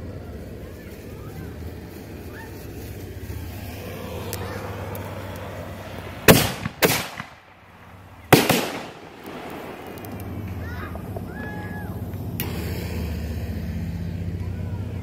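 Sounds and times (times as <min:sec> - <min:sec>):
steady low hum: 0:00.0 - 0:15.0
fireworks bangs: 0:00.3 - 0:13.4.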